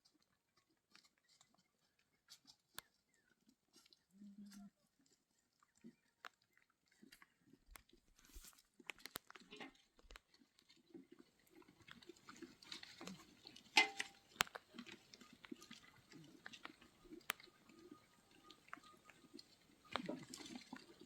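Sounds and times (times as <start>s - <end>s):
chewing and crunching: 0.0s - 21.0s.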